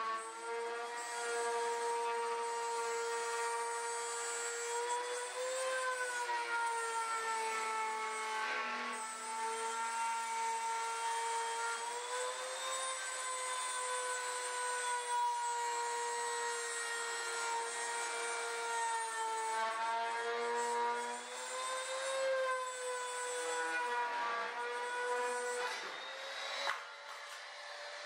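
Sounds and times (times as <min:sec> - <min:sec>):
router cutting aluminum: 0:00.0 - 0:28.0.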